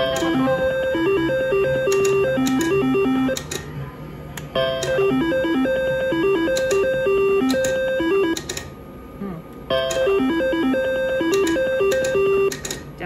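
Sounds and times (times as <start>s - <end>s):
slot machine beeping tune: 0.0s - 3.6s, 4.5s - 8.7s, 9.7s - 12.8s.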